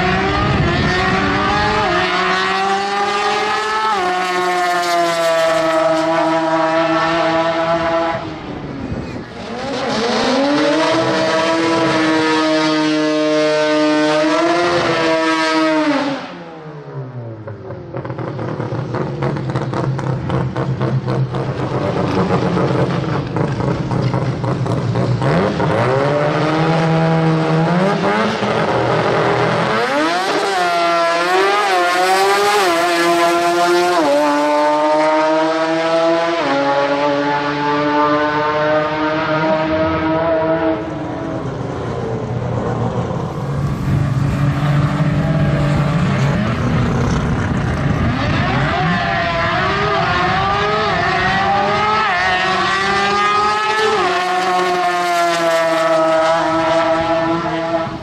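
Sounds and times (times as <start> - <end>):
rotary engine revving: 9.2 - 16.2, 18.0 - 58.0.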